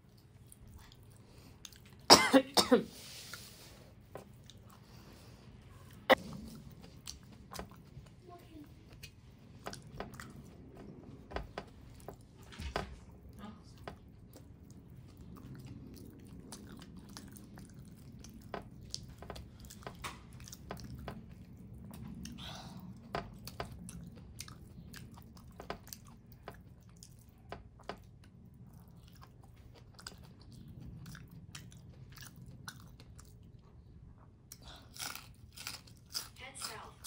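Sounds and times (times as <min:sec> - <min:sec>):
person chewing wetly: 0:00.0 - 0:02.1, 0:03.2 - 0:12.4, 0:13.2 - 0:36.8.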